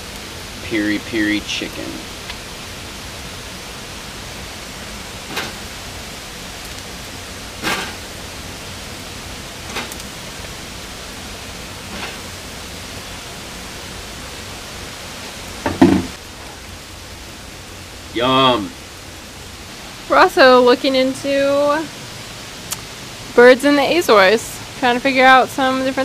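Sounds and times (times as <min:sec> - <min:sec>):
chicken sizzling on grill: 0:00.0 - 0:26.0
steady hiss: 0:00.0 - 0:26.0.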